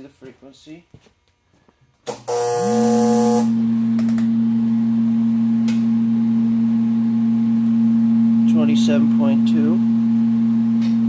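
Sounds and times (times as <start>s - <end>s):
loud electrical hum: 0.0s - 11.0s.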